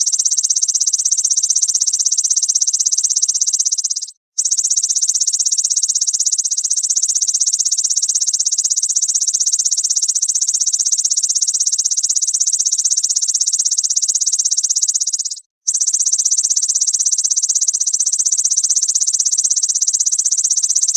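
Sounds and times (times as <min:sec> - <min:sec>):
grasshopper pulsing trill: 0:00.0 - 0:20.9.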